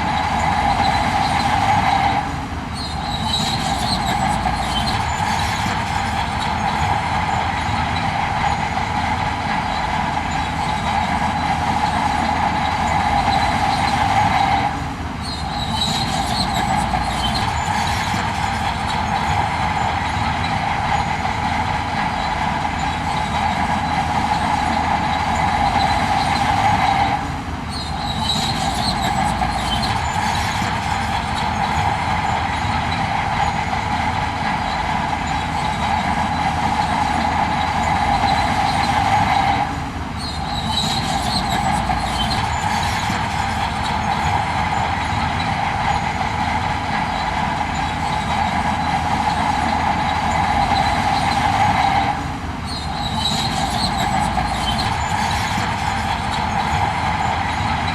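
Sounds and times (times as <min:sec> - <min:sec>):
heavy machinery engine drone: 0:00.0 - 0:57.9
metallic squealing and clatter: 0:00.0 - 0:57.9.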